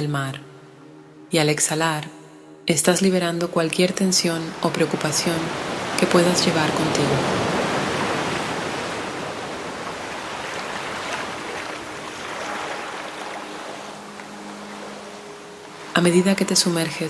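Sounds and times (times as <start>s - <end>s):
ocean waves washing on shore: 3.2s - 17.0s.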